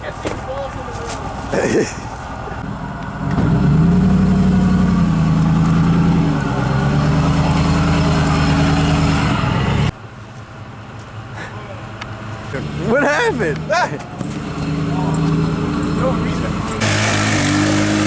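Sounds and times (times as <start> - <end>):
vehicle engine running hard: 1.4 - 18.0.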